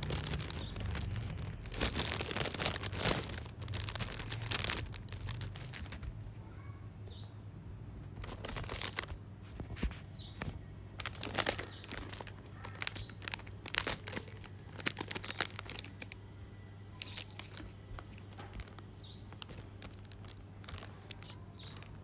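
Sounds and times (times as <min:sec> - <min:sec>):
plastic packaging crinkling: 0:00.0 - 0:06.2, 0:08.1 - 0:16.2, 0:17.0 - 0:22.0.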